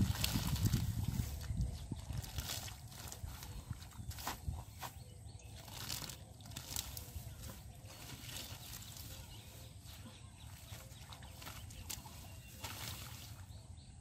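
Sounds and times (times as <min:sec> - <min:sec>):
rustling and squelching in mud: 0:00.0 - 0:13.8.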